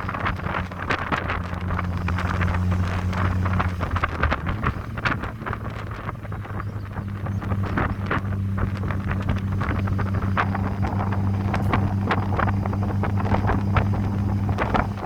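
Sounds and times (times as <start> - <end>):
car engine droning: 0.0 - 15.0
wind buffeting microphone: 0.0 - 15.0.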